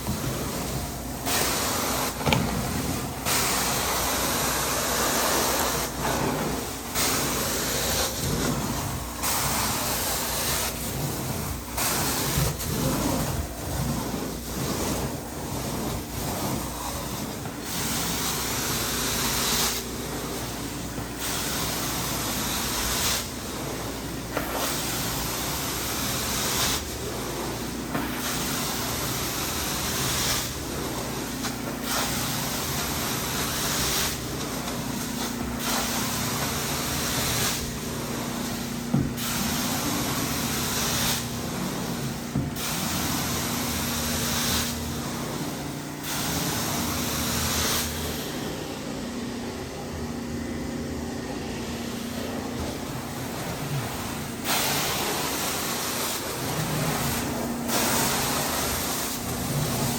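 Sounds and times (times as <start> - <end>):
carpet extractor spray and suction hiss: 0.0 - 50.0, 50.9 - 59.9.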